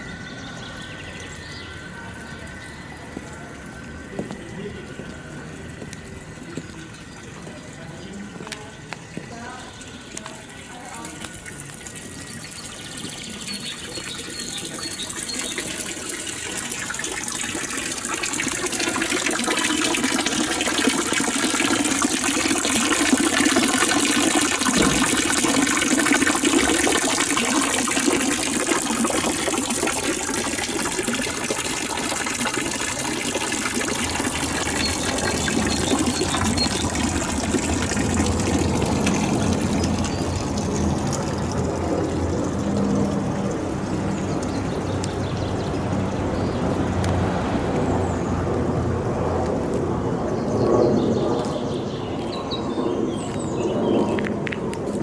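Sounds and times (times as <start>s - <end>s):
running splashing water: 2.2s - 47.4s.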